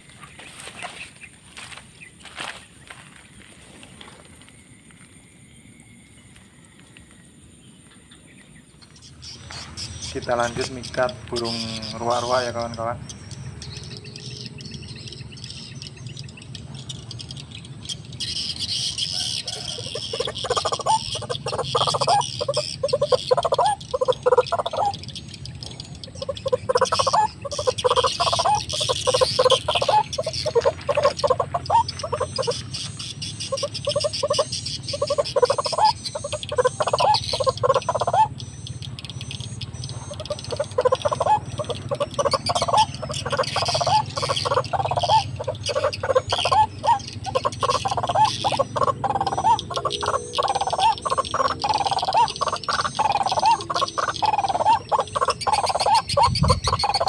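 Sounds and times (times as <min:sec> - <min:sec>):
bird calling rapidly: 0:07.9 - 0:57.0.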